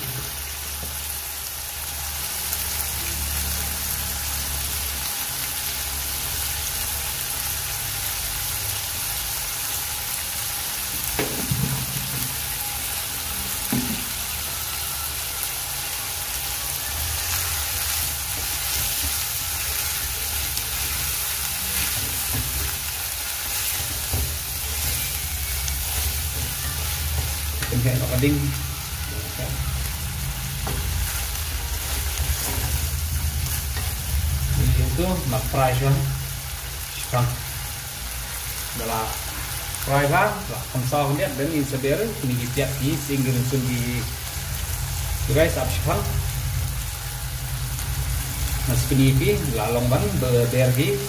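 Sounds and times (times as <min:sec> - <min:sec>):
fish sizzling in a wok: 0:00.0 - 0:51.0.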